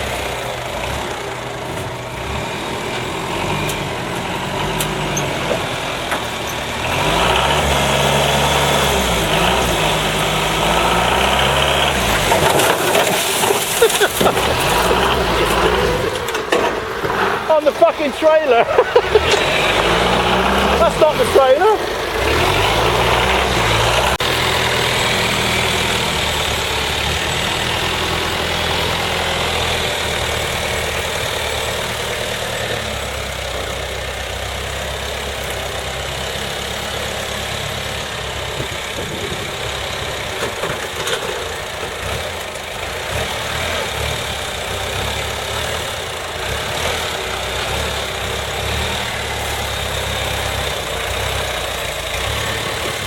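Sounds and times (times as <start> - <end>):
vehicle engine humming: 0.0 - 53.0.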